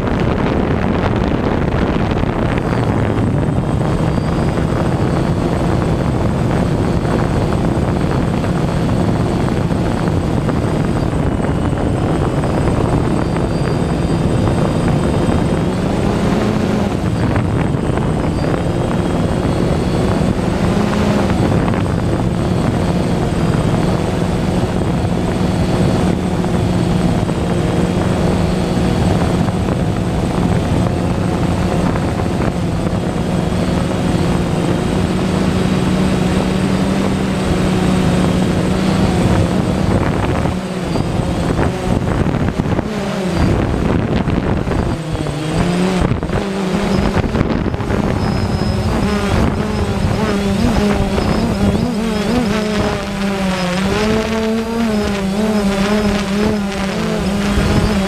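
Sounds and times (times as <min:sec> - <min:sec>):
drone motors and propellers: 0:00.0 - 0:58.0
rushing air: 0:00.0 - 0:58.0.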